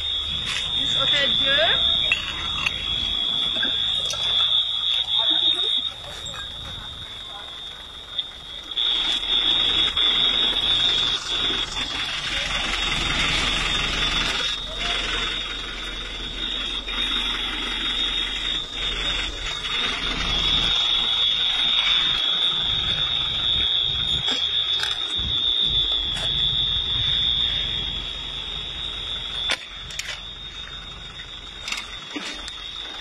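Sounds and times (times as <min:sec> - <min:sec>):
high-pitched alarm tone: 0:00.0 - 0:33.0.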